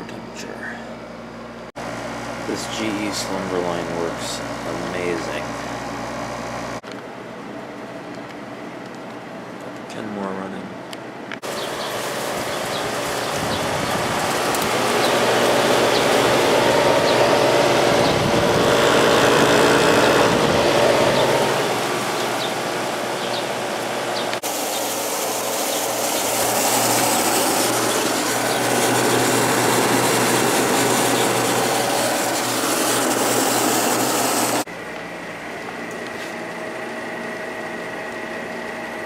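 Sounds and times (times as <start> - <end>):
air conditioner fan blowing: 0.0 - 39.0
compressor hum: 0.0 - 39.0.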